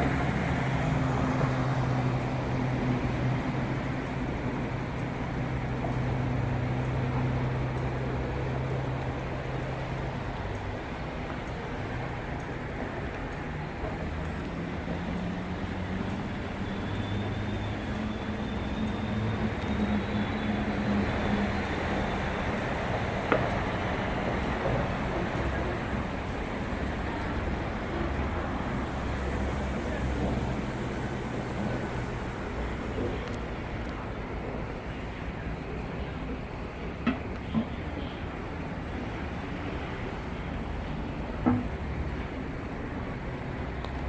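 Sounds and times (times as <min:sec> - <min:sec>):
electric train hum and rumble: 0:00.0 - 0:44.0.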